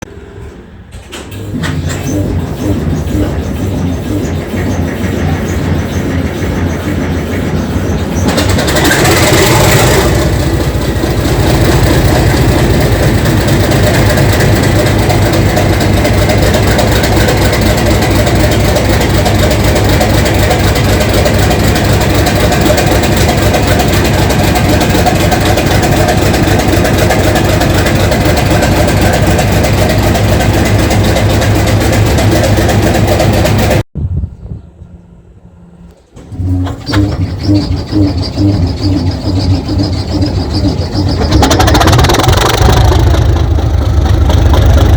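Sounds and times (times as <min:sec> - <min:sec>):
engine idling: 0:00.0 - 0:33.8, 0:35.9 - 0:44.9
diesel locomotive engine starting: 0:00.0 - 0:44.9.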